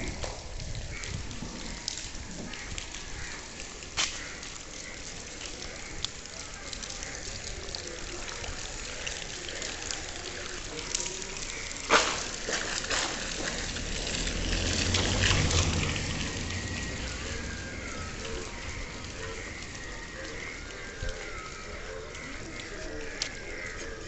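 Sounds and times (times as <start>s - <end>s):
light rain pattering: 0.0s - 24.0s
small drips and clicks: 0.0s - 24.0s
water trickling: 0.0s - 24.0s.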